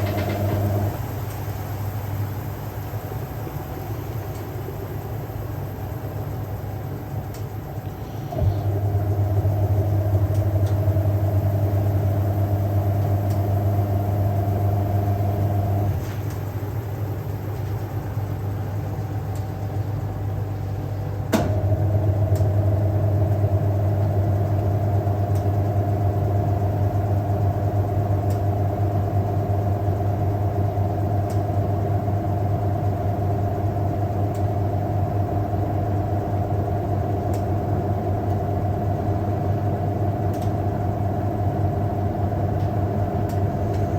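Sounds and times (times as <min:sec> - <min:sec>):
washing machine motor humming: 0:00.0 - 0:43.9.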